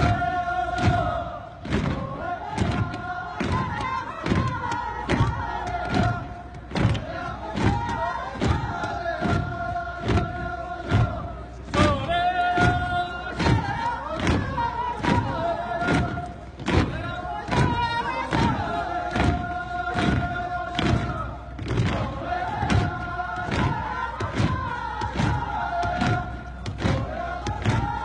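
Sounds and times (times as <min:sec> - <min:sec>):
group chanting work song: 0:00.0 - 0:28.0
rhythmic stamping thuds: 0:00.0 - 0:28.0.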